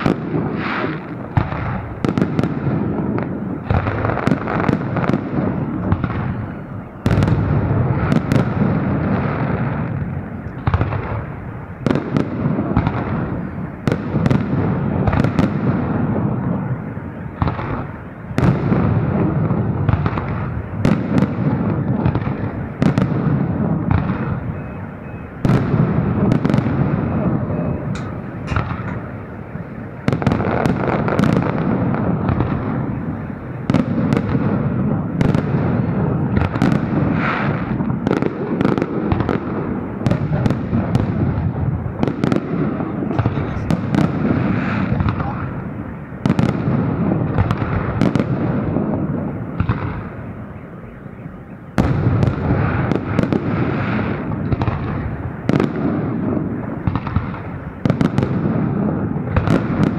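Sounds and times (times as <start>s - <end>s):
fireworks bangs with echo: 0.0s - 59.9s.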